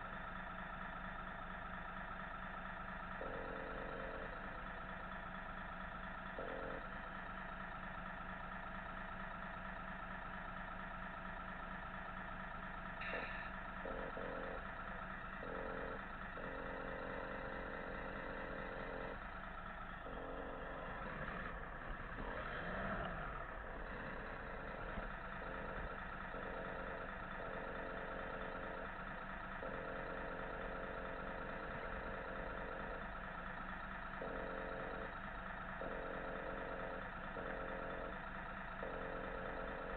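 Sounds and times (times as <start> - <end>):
simulated diesel engine idling: 0.0 - 39.9.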